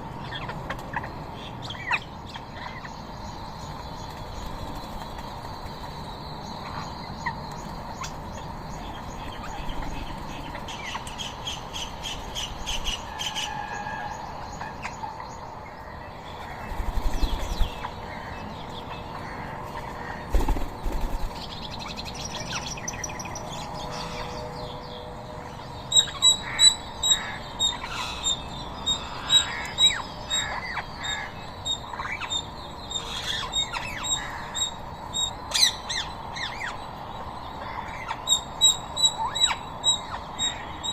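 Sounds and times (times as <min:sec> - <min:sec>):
birds squawking and chirping: 0:00.0 - 0:40.9
high repeated bird calls: 0:00.0 - 0:40.9.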